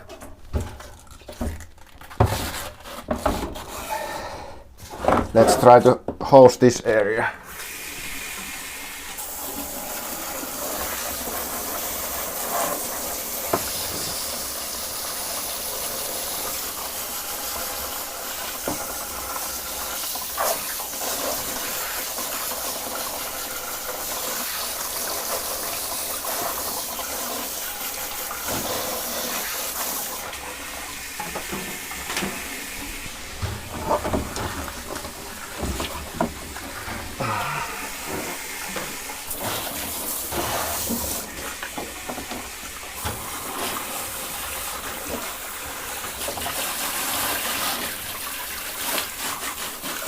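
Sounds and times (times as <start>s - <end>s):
shower hose spraying water: 7.4s - 50.0s.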